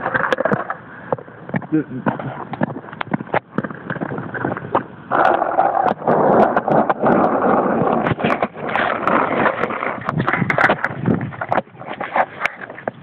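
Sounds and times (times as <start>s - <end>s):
skateboard wheels rolling on asphalt: 0.0s - 13.0s.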